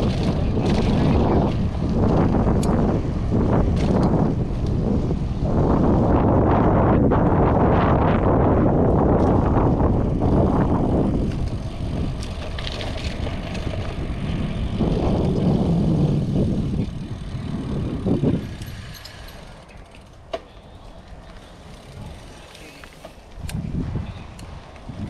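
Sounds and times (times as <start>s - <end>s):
wind buffeting microphone: 0.0s - 19.9s, 20.9s - 25.0s.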